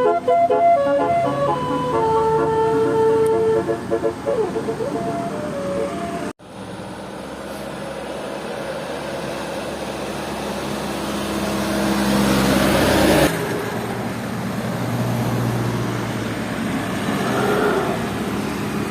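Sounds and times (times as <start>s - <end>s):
heavy vehicle engine passing: 0.0s - 18.9s
road traffic hum: 0.0s - 18.9s.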